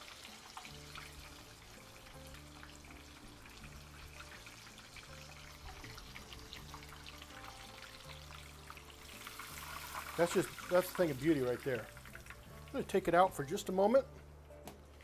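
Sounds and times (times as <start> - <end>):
oil sizzling and crackling: 0.0 - 14.0
soft background music with bass: 0.0 - 15.0.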